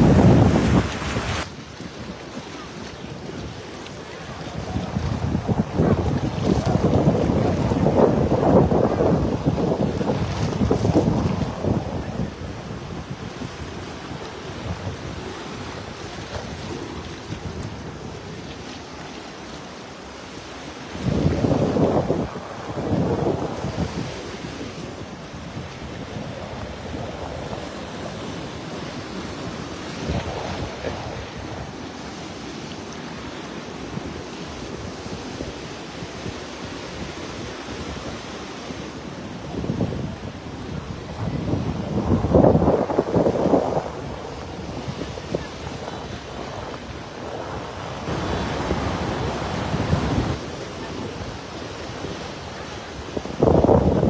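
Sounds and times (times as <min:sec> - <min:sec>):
wind rumbling on microphone: 0:00.0 - 0:19.4, 0:20.7 - 0:54.0
surf washing over rocks: 0:00.0 - 0:54.0.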